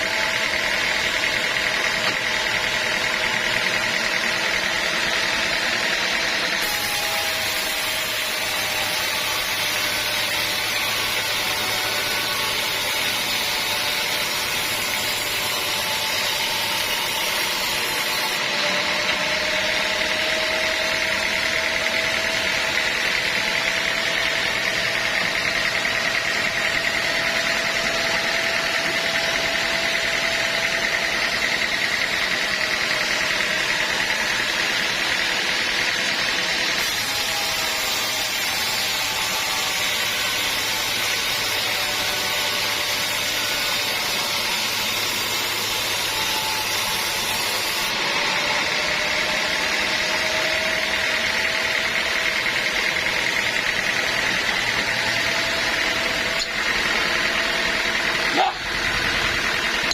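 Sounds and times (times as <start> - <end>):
sawmill machinery whine: 0.0 - 59.9.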